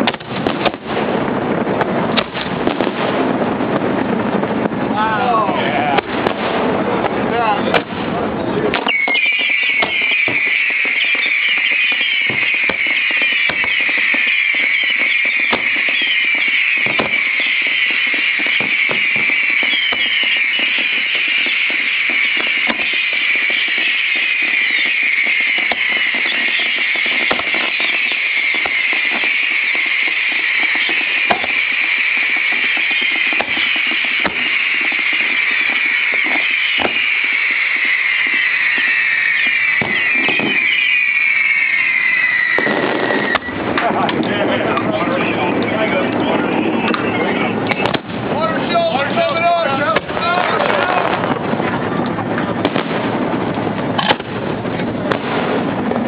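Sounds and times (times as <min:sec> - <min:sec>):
fireworks bangs and pops: 0:00.0 - 0:56.0
fireworks whistling: 0:00.0 - 0:56.0.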